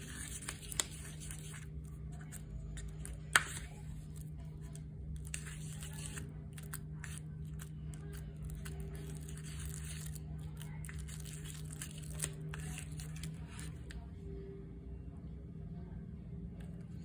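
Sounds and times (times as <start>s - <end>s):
spoon stirring slime in bowl: 0.0s - 14.0s
steady low hum: 0.0s - 17.0s.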